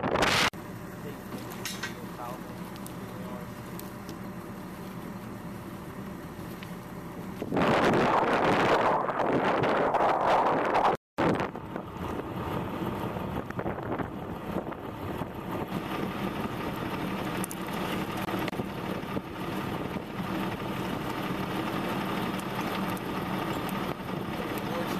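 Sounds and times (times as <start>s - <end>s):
engine idling hum: 0.0s - 10.6s, 11.2s - 24.9s.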